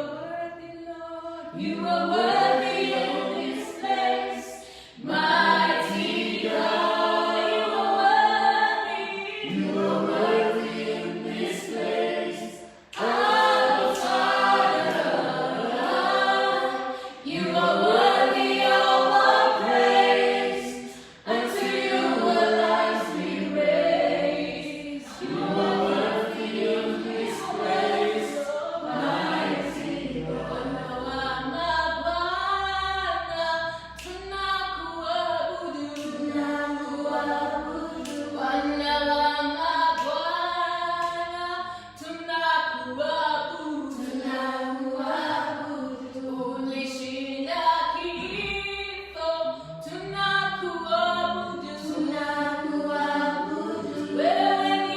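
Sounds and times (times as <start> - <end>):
group singing a worship song: 0.0 - 54.9.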